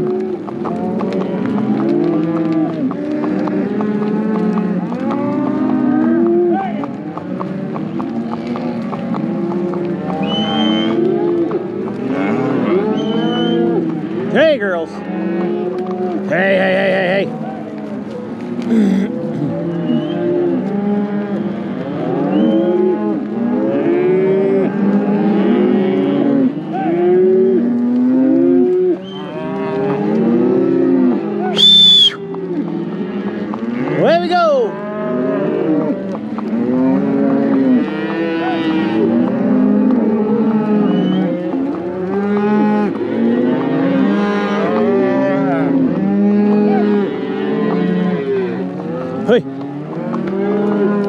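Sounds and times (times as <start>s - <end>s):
cattle mooing: 0.0s - 51.0s.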